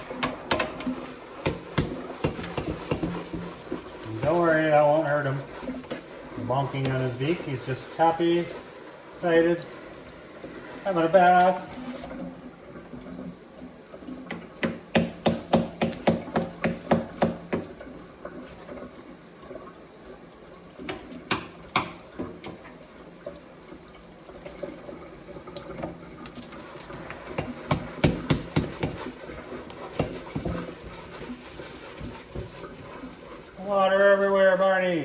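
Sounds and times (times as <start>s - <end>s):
tap water running into sink: 0.0s - 33.7s.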